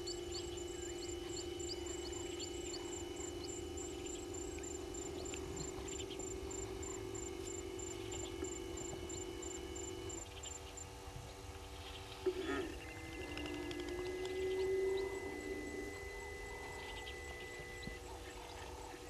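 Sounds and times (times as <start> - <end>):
camera motor whirring: 0.0 - 19.0.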